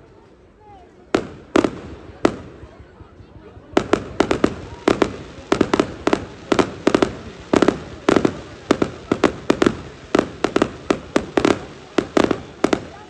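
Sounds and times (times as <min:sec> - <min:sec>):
fireworks bangs: 0:01.1 - 0:13.0.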